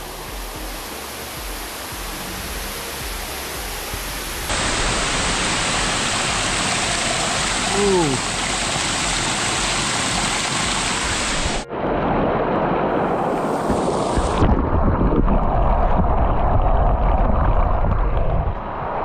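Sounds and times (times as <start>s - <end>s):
waterfall rushing over rock: 0.0s - 11.7s, 13.0s - 18.4s.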